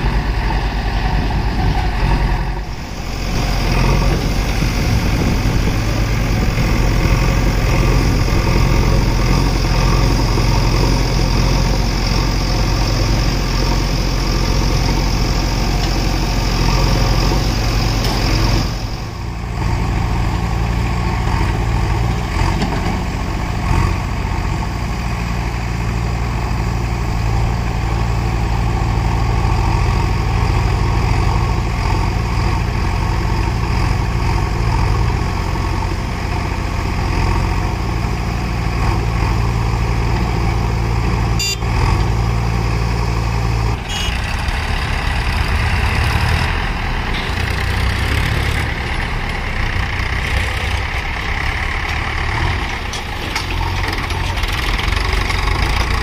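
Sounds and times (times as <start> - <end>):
diesel engine of digger running: 0.0 - 56.0.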